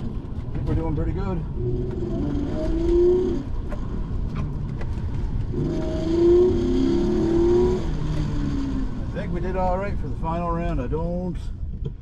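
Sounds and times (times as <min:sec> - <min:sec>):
road and tyre noise: 0:00.0 - 0:12.0
car engine accelerating hard: 0:00.7 - 0:10.6.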